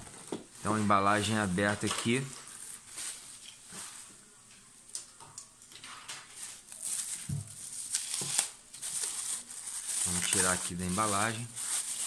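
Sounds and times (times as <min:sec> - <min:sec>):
plastic film crinkling: 0:00.0 - 0:04.2, 0:05.7 - 0:12.0.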